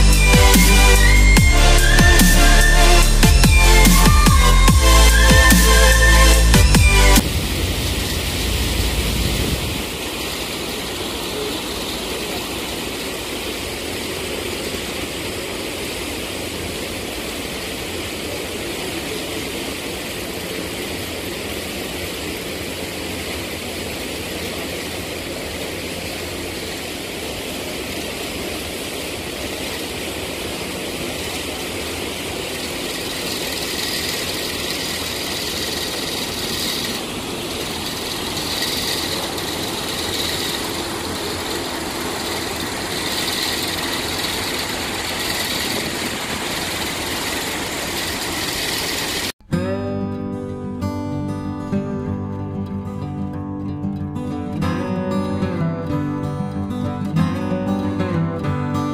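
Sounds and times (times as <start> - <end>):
distant engine rumble: 0.0 - 49.3.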